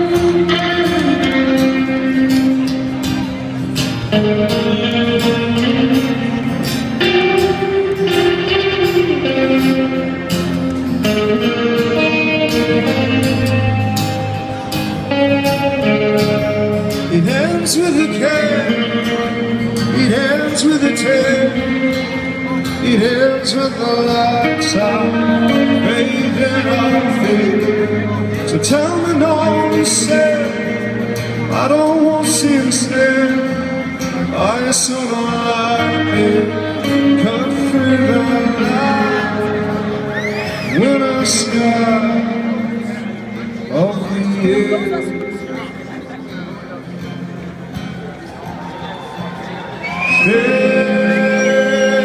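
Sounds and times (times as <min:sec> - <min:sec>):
bending guitar melody notes: 0:00.0 - 0:52.0
live rock band playing: 0:00.0 - 0:52.0.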